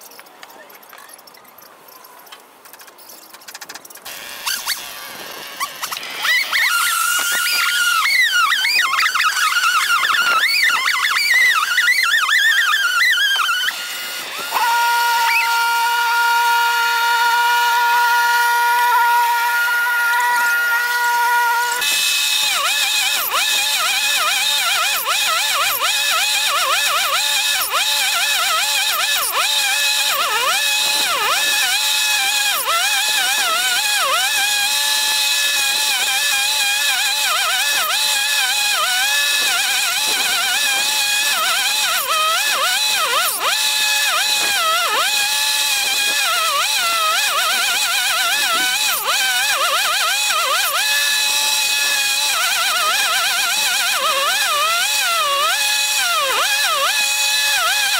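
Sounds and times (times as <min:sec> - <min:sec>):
sped-up chainsaw warbling: 0:00.0 - 0:57.9.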